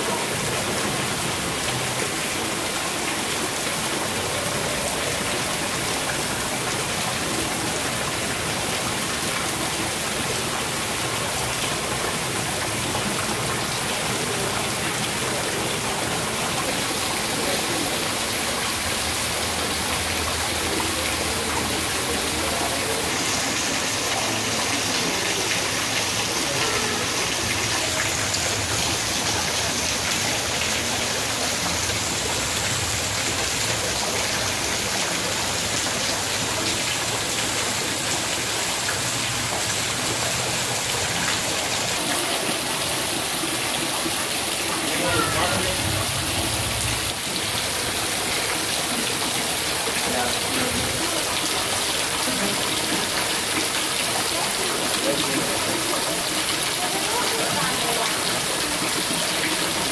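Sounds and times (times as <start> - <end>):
water splashing onto rocks and pond: 0.0 - 59.9.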